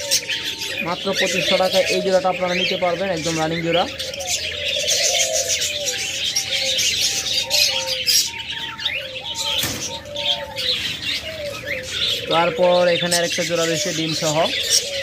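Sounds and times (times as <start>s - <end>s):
budgerigars chattering and chirping: 0.0s - 15.0s
doves cooing: 0.0s - 15.0s.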